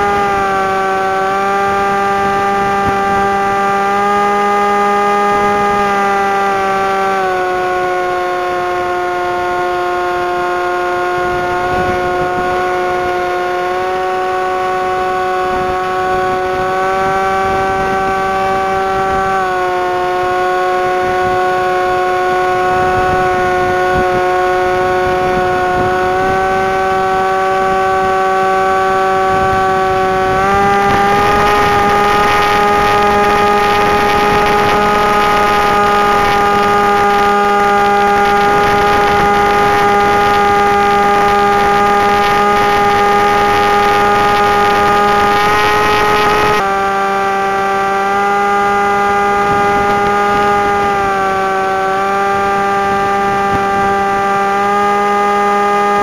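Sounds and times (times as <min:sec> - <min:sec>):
electric motor and propeller whining: 0:00.0 - 0:56.0.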